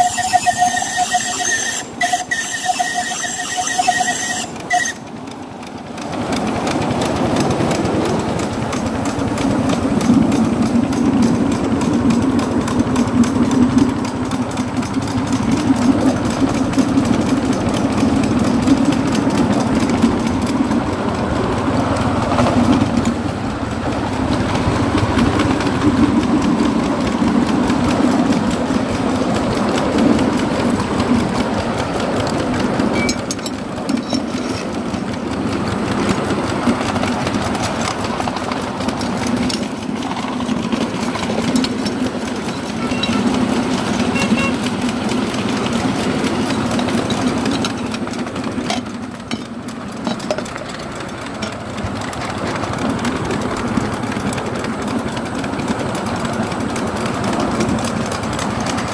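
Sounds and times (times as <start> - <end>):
miniature steam locomotive running: 0.0 - 58.9.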